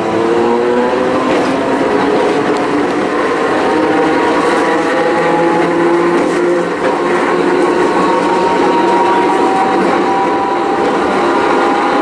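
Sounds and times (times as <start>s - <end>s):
tram running noise: 0.0s - 12.0s
tram traction motors whining: 0.0s - 12.0s.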